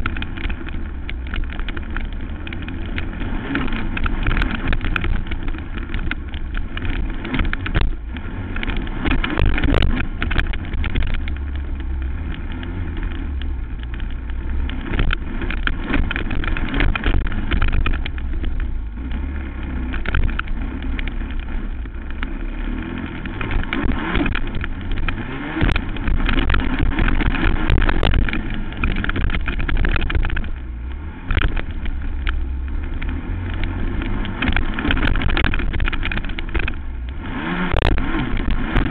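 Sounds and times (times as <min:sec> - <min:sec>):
quad engine running hard: 0:00.0 - 0:38.9
wind rumble on microphone: 0:00.0 - 0:38.9.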